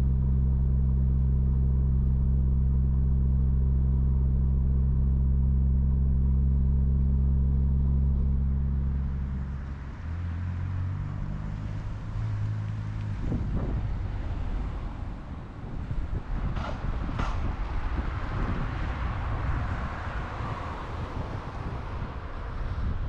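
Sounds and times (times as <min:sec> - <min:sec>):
car engine droning: 0:00.0 - 0:23.0
road and wind noise: 0:00.0 - 0:23.0.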